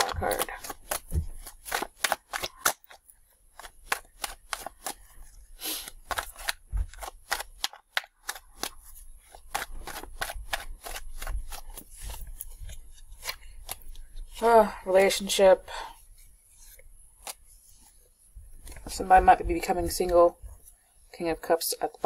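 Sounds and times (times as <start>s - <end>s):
cards being shuffled: 0.0s - 15.2s, 16.1s - 20.8s.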